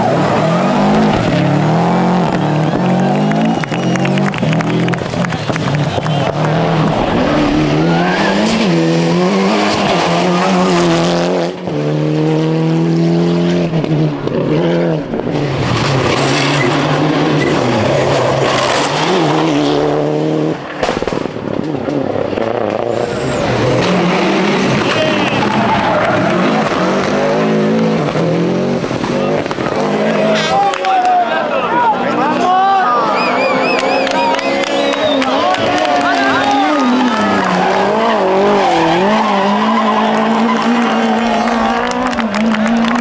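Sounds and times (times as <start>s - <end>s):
rally car engines revving: 0.0s - 43.0s.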